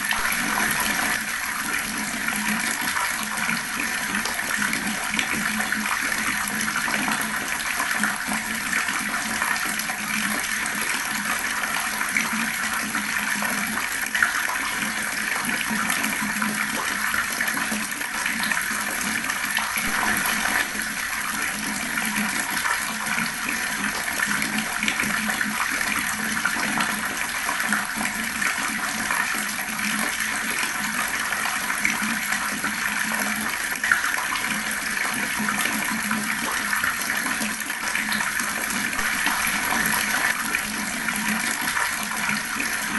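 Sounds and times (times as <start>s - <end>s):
fast-flowing water: 0.0s - 42.9s.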